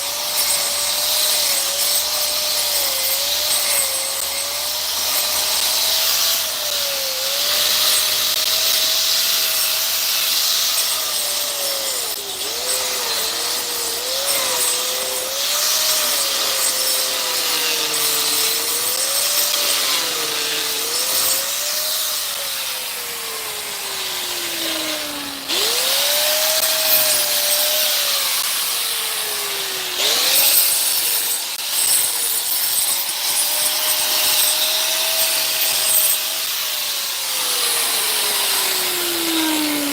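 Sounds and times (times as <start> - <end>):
power tool working wood: 0.0 - 39.9.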